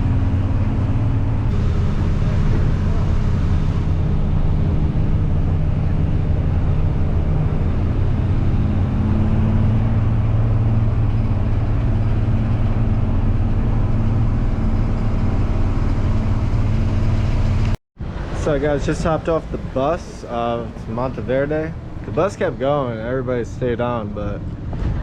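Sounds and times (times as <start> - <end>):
bus engine droning: 0.0 - 25.0.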